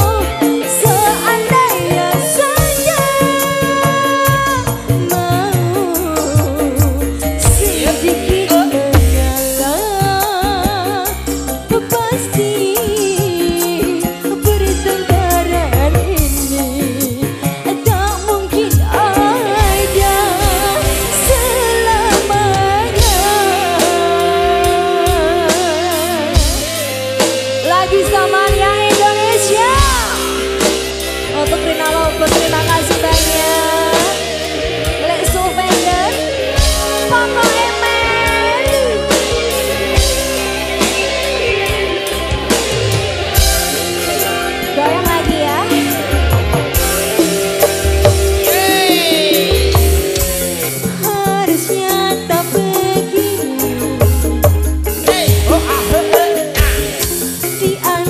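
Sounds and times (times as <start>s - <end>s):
bass: 0.0s - 58.0s
drums: 0.0s - 58.0s
electric guitars: 0.0s - 58.0s
wavering lead melody: 0.0s - 58.0s.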